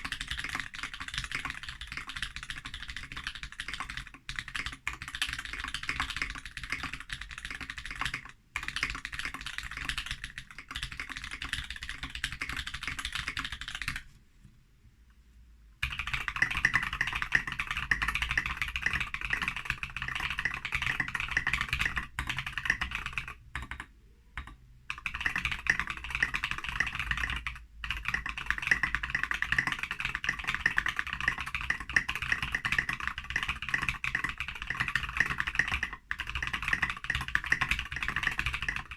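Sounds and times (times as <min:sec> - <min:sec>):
fast mechanical keyboard typing: 0:00.0 - 0:14.0, 0:15.8 - 0:38.9.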